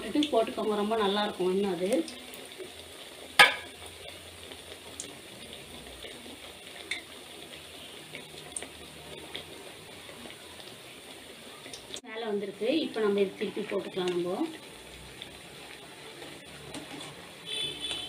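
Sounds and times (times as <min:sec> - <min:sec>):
oil sizzling and popping: 0:00.0 - 0:18.0.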